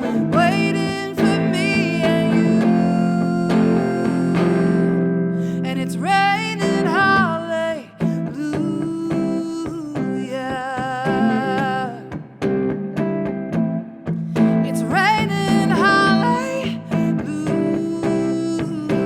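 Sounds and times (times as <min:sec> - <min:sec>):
woman singing a slow ballad: 0:00.0 - 0:12.5, 0:14.4 - 0:19.0
acoustic guitar: 0:00.0 - 0:19.0.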